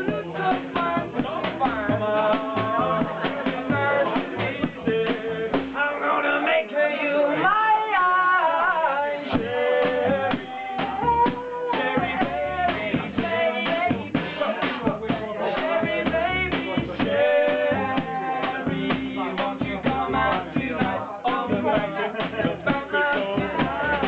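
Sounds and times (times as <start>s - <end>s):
double bass: 0.0s - 6.0s, 8.6s - 24.0s
drum kit beat: 0.0s - 6.0s, 9.2s - 24.0s.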